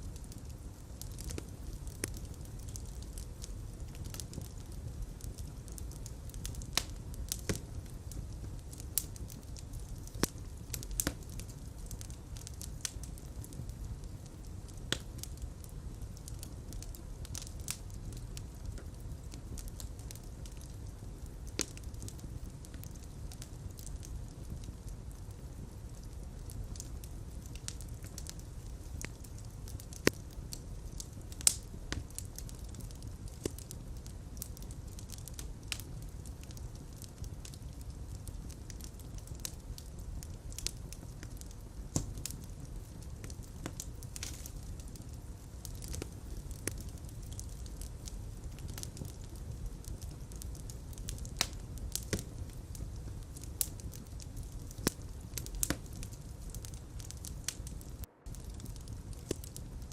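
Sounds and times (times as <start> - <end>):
fire rumbling and crackling: 0.0 - 59.9.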